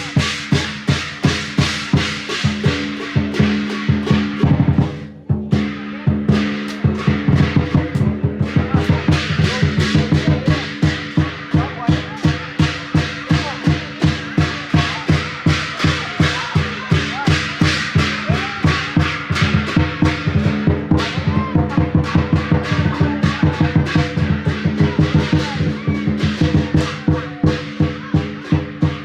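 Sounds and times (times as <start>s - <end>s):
drums and cymbals beating: 0.0s - 29.0s.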